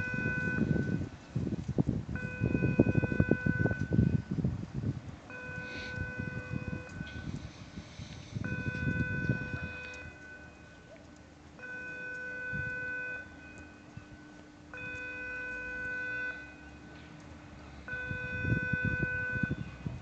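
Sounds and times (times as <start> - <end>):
electronic warning beeps: 0.0 - 1.1, 2.2 - 4.3, 5.3 - 11.0, 11.6 - 17.0, 17.8 - 19.8
wind rumble on microphone: 0.0 - 20.0.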